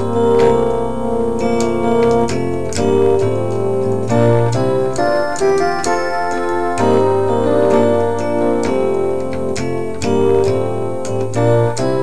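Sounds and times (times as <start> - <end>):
electronic keyboard chords: 0.0 - 12.0.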